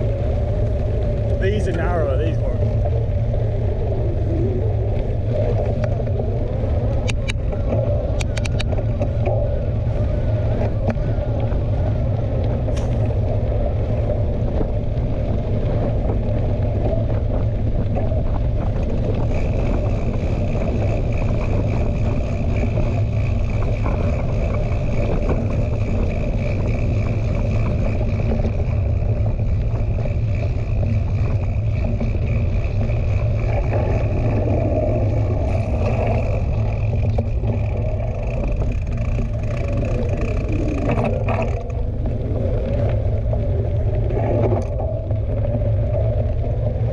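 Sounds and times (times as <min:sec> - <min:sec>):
mountain bike ride noise: 0:00.0 - 0:46.9
wind buffeting microphone: 0:00.0 - 0:46.9.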